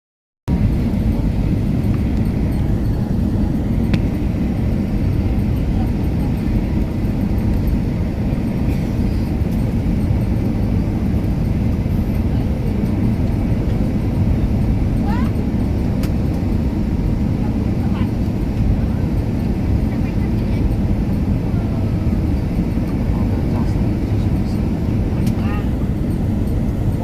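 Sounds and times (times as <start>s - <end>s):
airplane landing rumble: 0.5s - 27.0s.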